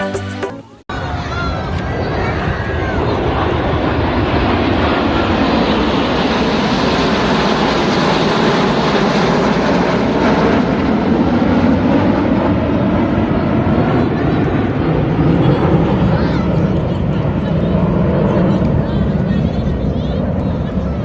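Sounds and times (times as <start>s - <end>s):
jet aircraft flying past: 2.0s - 21.0s.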